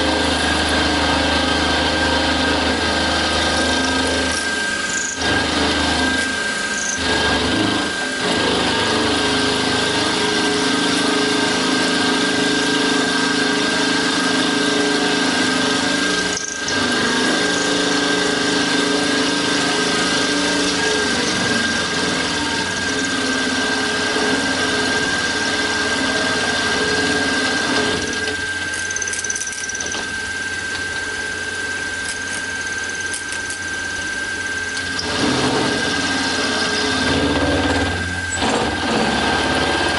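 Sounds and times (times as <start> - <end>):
high machine whine: 0.0 - 39.9
milling machine cutting metal: 0.0 - 39.9.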